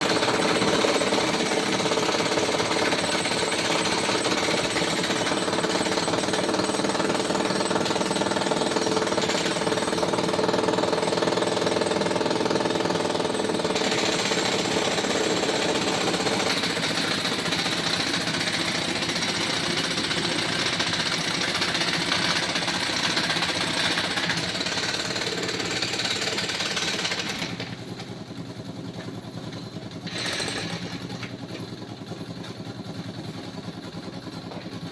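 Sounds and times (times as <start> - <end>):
jackhammer hammering road: 0.0 - 34.9.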